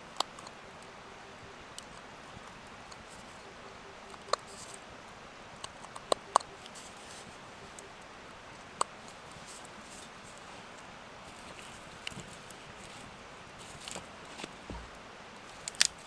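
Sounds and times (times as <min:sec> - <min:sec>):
soft hiss: 0:00.0 - 0:16.0.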